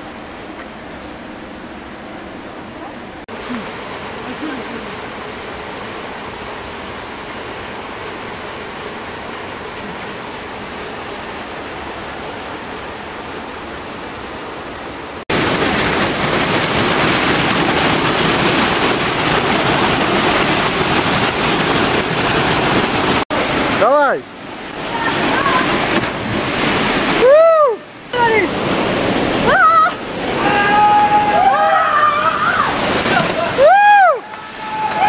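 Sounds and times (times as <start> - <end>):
stream rushing: 0.0 - 35.0.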